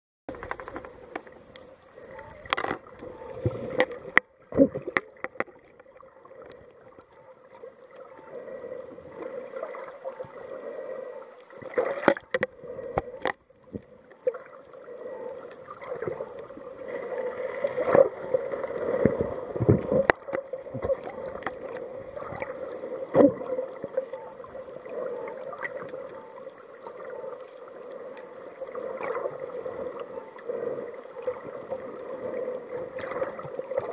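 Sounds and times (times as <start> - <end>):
muffled underwater gurgling: 0.3 - 33.9.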